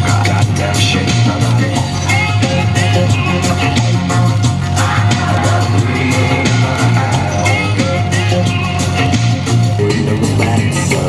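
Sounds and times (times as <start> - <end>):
drums: 0.0 - 11.0
electric guitar: 0.0 - 11.0
person singing: 0.0 - 11.0.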